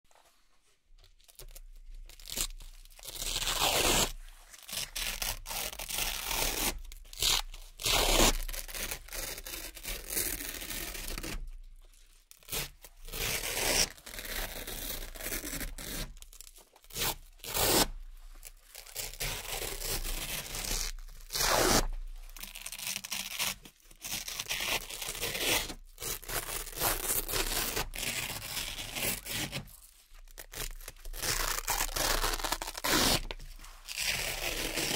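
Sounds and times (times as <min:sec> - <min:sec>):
velcro patches tearing off: 0:01.2 - 0:11.5, 0:12.4 - 0:34.9.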